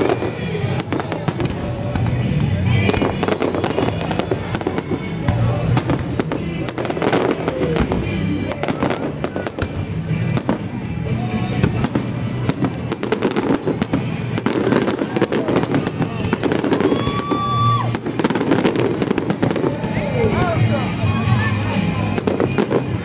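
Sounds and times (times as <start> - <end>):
fireworks bursting: 0.0 - 23.0
music playing: 0.0 - 23.0.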